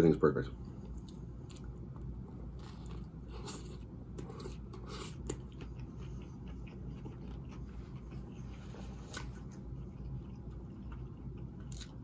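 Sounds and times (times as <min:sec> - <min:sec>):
person chewing food: 0:00.8 - 0:12.0.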